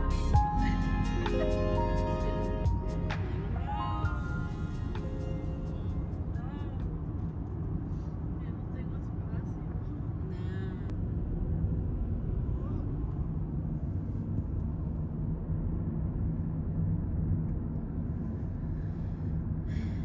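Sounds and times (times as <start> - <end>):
car interior engine and tyre rumble: 0.0 - 20.0.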